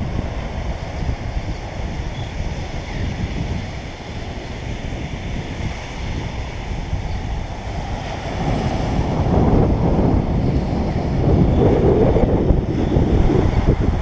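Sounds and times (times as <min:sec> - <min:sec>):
surf washing onto beach: 0:00.0 - 0:14.0
wind rumbling on microphone: 0:00.0 - 0:14.0.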